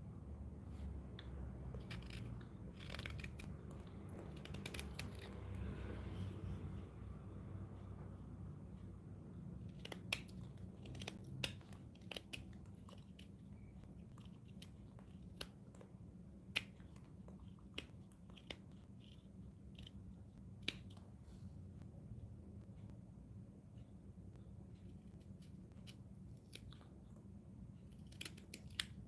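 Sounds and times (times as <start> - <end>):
low hum: 0.0 - 28.5.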